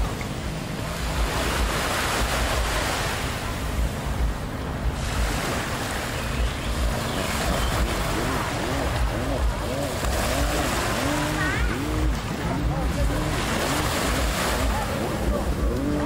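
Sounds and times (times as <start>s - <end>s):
sea surf rushing: 0.0s - 16.0s.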